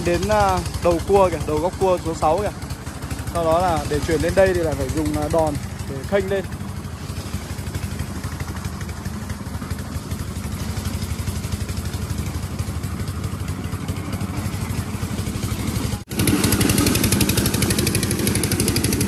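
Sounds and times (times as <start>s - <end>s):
motor engine chugging: 0.0s - 19.0s.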